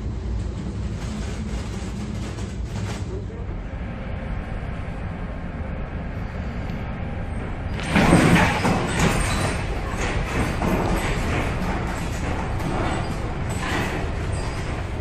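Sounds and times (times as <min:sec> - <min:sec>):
low rumble of storm wind: 0:00.0 - 0:15.0.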